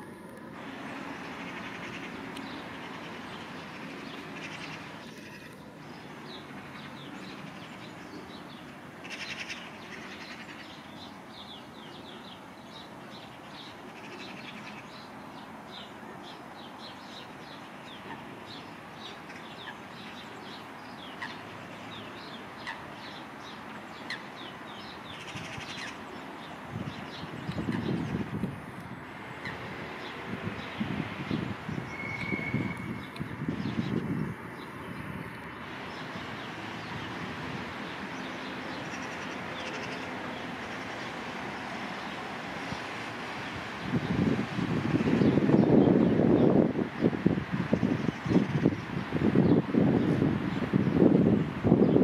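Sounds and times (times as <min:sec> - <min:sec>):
steady background noise: 0:00.0 - 0:52.0
small birds chirping: 0:00.9 - 0:44.4.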